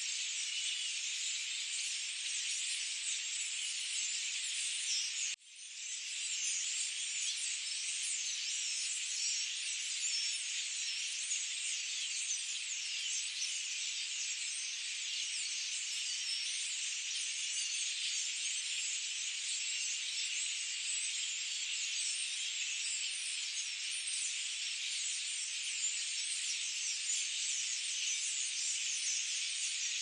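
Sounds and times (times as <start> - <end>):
chorus of birds singing: 0.0 - 30.0.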